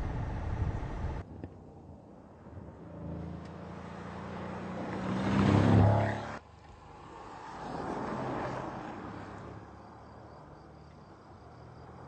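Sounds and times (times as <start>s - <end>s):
car engine approaching at speed: 0.0s - 12.0s.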